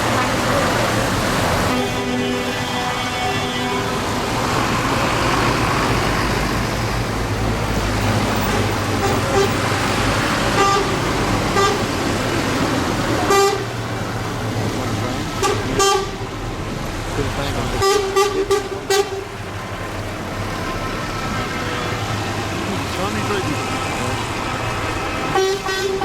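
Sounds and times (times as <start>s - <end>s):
tractor engines running: 0.0s - 26.0s.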